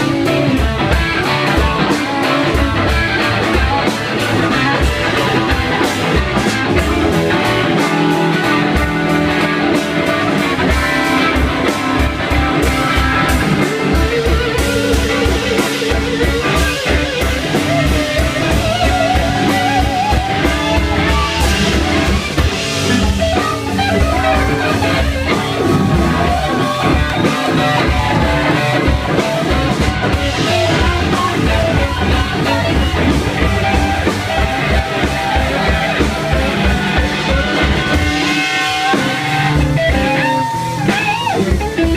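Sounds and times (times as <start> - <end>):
drum beat: 0.0 - 41.9
electric guitar lead: 0.0 - 41.9.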